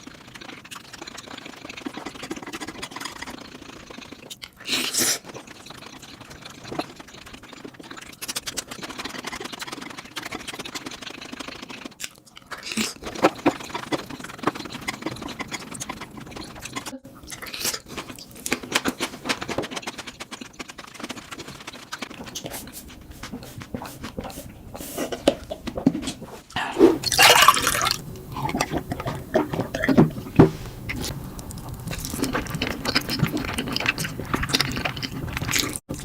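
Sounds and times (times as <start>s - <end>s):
person chewing noodles: 0.0s - 36.0s.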